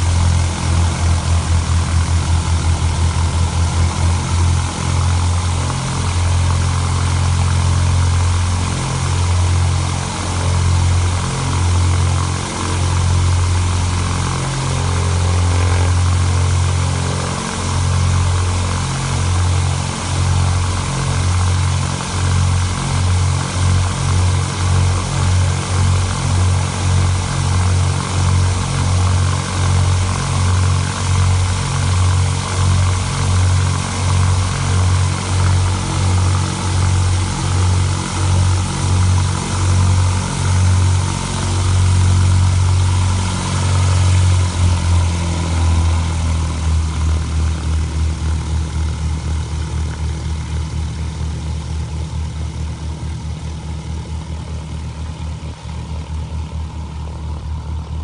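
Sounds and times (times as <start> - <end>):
aircraft engines idling: 0.0 - 58.0.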